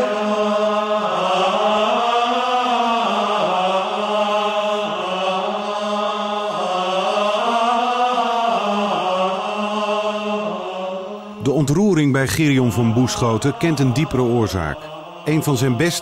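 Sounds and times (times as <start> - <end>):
male choir chanting in unison: 0.0 - 16.0.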